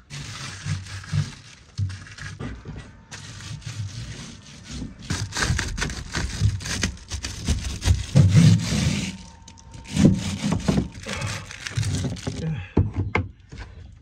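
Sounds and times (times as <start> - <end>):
carpet rubbing and scraping on metal: 0.0 - 12.4.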